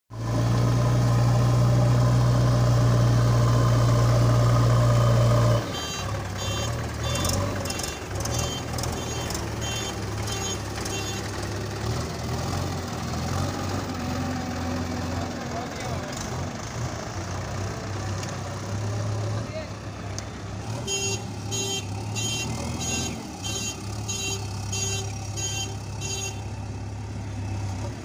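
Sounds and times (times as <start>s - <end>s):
diesel engine running: 0.1s - 28.0s.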